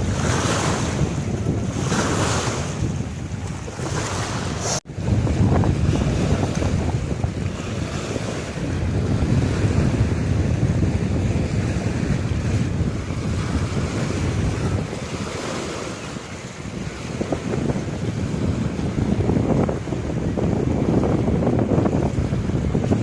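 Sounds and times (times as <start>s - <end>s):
waves washing in: 0.0s - 23.0s
wind buffeting microphone: 0.0s - 23.0s.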